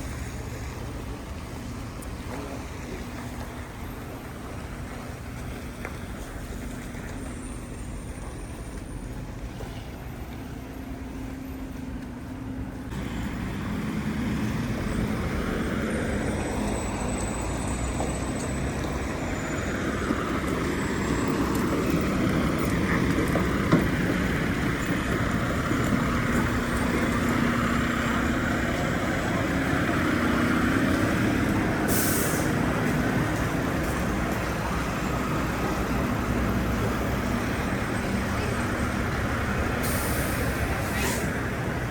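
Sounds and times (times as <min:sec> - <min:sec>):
city street traffic: 0:00.0 - 0:41.9
heavy vehicle running close by: 0:00.0 - 0:41.9.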